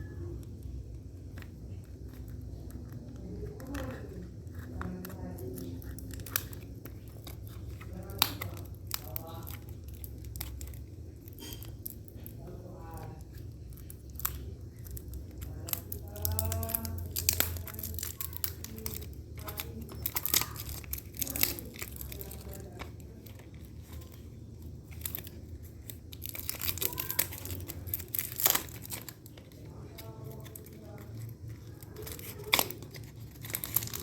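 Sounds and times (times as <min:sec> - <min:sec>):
packaging tearing and crinkling: 0:00.0 - 0:34.0.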